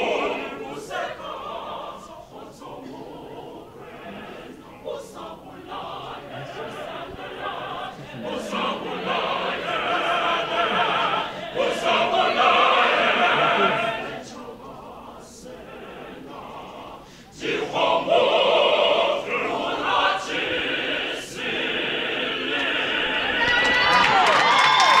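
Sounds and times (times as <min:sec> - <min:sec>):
mixed choir singing: 0:00.0 - 0:25.0.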